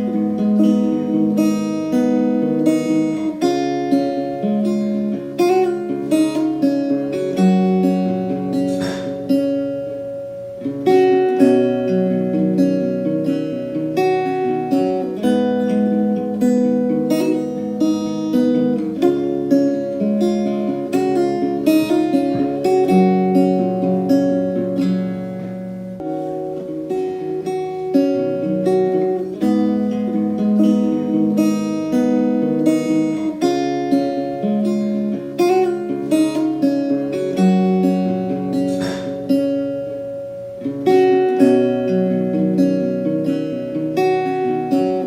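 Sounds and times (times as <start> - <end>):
acoustic guitar chords: 0.0 - 45.0.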